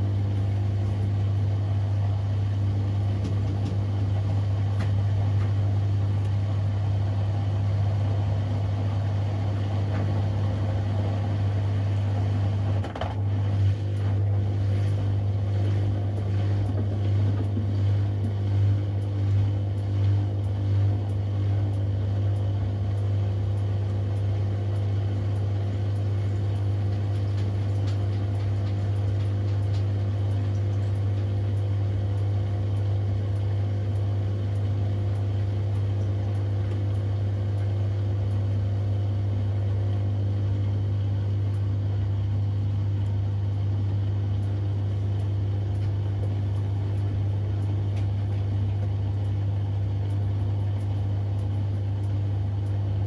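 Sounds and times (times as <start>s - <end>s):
washing machine humming: 0.0s - 53.0s.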